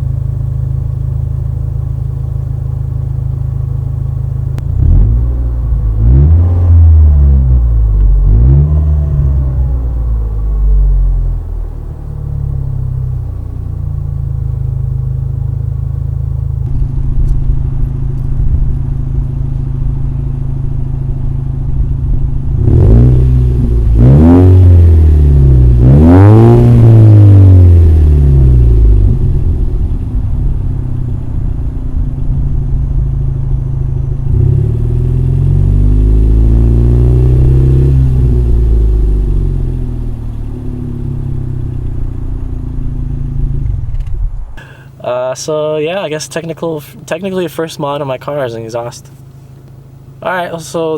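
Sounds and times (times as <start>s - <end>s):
car exhaust revving and idling: 0.0s - 50.9s.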